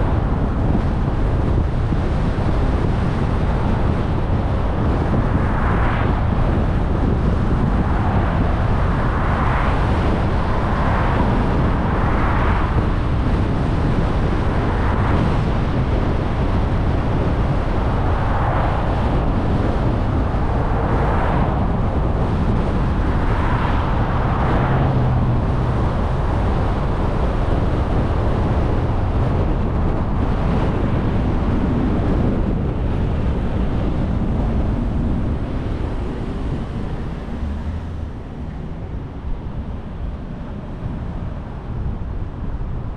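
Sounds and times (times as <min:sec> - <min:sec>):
road and tyre noise: 0:00.0 - 0:42.9
wind rushing past: 0:00.0 - 0:42.9.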